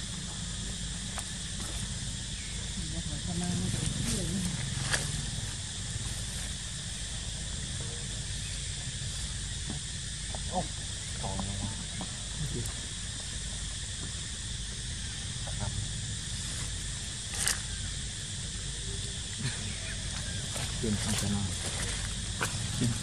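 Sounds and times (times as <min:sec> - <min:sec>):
high background hiss: 0:00.0 - 0:23.0.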